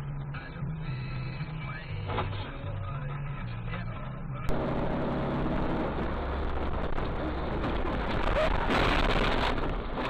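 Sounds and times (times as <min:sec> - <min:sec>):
car engine drone: 0:00.0 - 0:10.0
road noise: 0:00.0 - 0:10.0.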